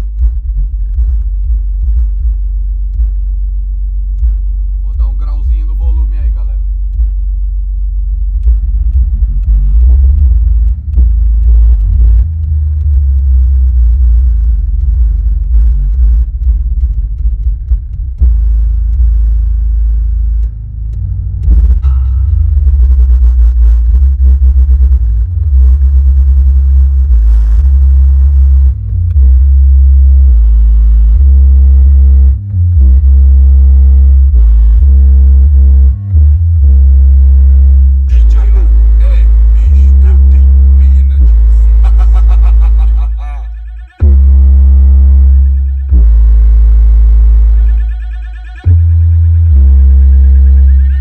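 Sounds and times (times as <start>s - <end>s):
deep bass notes from subwoofer: 0.0s - 51.0s.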